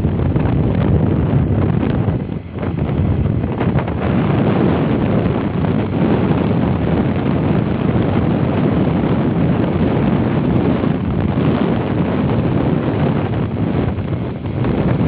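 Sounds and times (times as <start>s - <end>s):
moving vehicle rumble: 0.0s - 15.0s
wind buffeting microphone: 0.0s - 15.0s.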